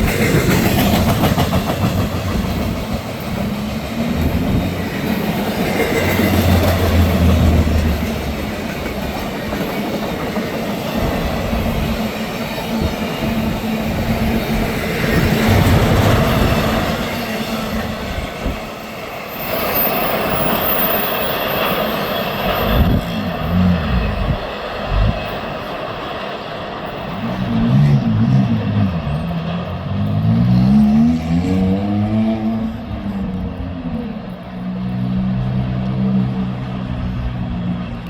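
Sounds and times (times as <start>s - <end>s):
train wheels clacking on rail joints: 0.0s - 38.0s.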